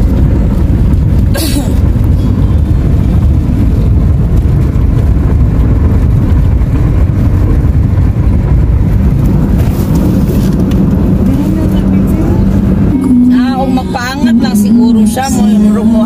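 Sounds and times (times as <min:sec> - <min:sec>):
car engine rumble: 0:00.0 - 0:16.0
tyres on road: 0:00.0 - 0:16.0.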